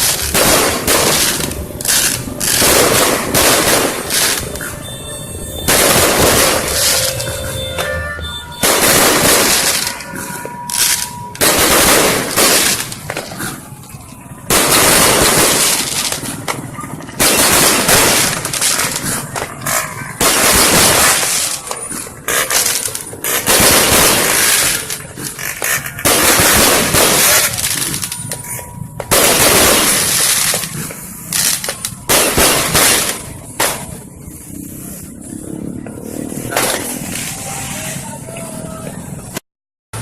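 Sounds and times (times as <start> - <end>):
fireworks bangs and crackling: 0.0 - 39.4.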